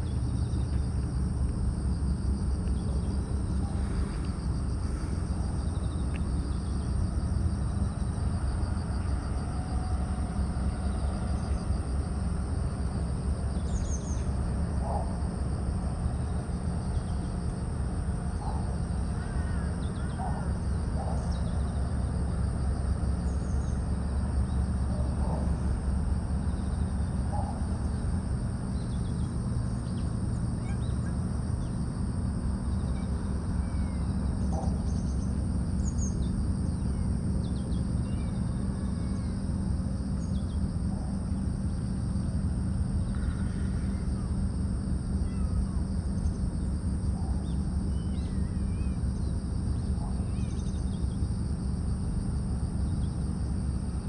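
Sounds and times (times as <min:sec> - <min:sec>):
high-pitched insect buzz: 0:01.8 - 0:24.8, 0:26.4 - 0:54.0.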